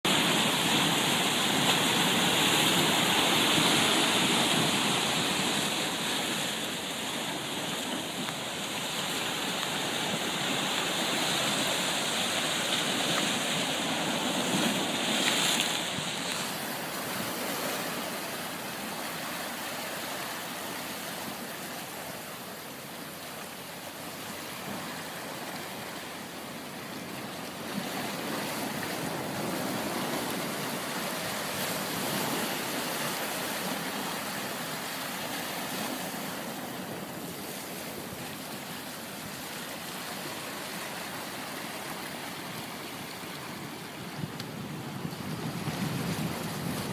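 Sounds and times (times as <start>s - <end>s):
ocean waves breaking: 0.0s - 46.9s.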